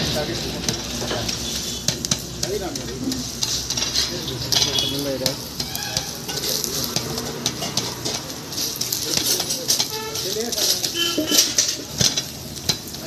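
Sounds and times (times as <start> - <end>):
bread sizzling in oil: 0.0 - 13.0
metal spatula scraping griddle: 0.0 - 13.0.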